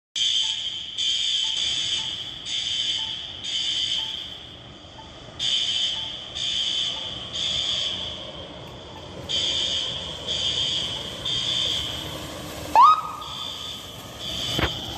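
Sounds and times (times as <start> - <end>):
fire alarm pulsing high tone: 0.2 - 14.9.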